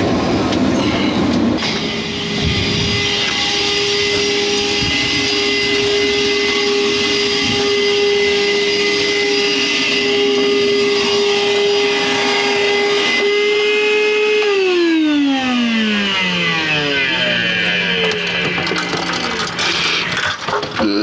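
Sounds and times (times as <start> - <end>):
air conditioner motor whining: 1.5 - 20.8.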